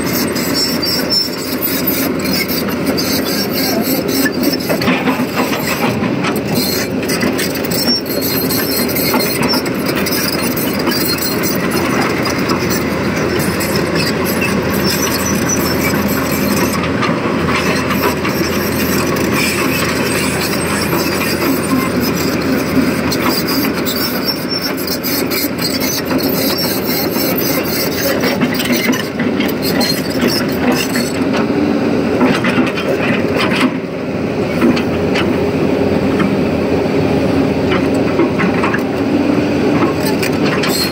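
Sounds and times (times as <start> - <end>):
excavator engine and hydraulics: 0.0 - 40.9.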